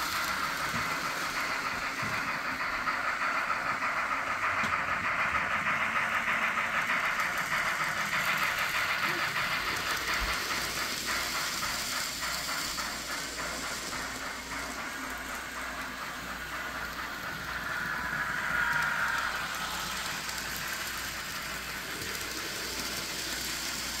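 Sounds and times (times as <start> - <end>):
model train wheels rattling on rails: 0.0 - 24.0
passing train whine: 0.0 - 24.0
rapid clicking: 0.0 - 24.0.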